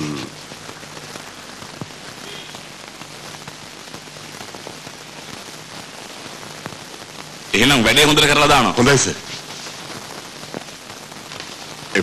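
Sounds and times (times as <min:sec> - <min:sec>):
film soundtrack hiss: 0:00.0 - 0:12.0.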